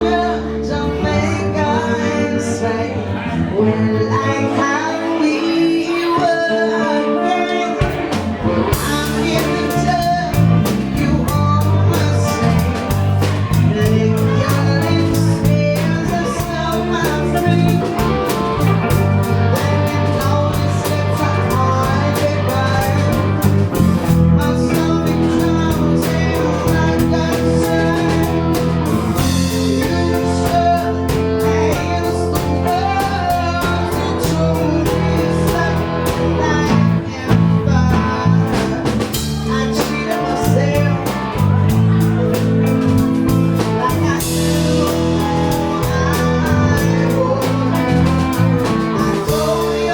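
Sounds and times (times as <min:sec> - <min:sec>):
guitar: 0:00.0 - 0:49.9
person singing: 0:00.0 - 0:49.9
drums steady beat: 0:07.8 - 0:49.9.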